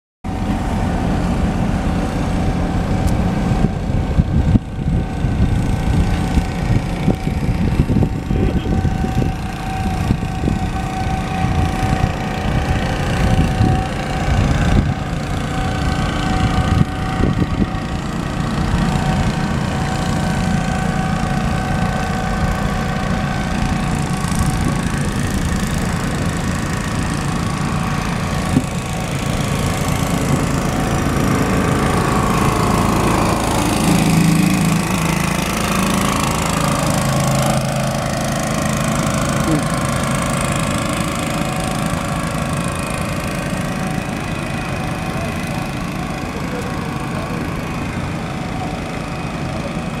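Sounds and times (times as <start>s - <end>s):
motorboat motor running: 0.3s - 50.0s.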